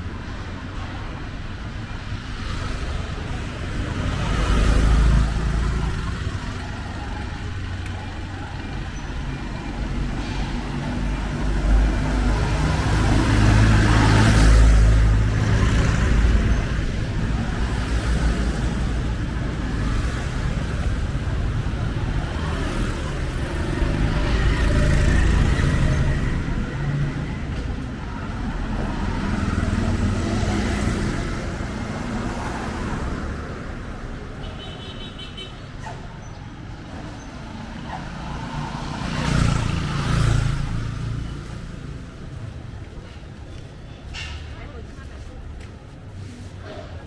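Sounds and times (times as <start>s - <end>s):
tuk-tuk passing: 0.0s - 34.5s, 35.6s - 47.0s
motorbikes passing: 0.2s - 43.5s.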